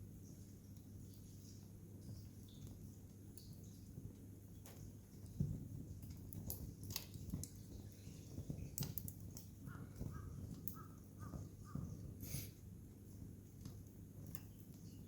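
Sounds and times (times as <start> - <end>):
campfire crackling and popping: 0.7 - 15.0.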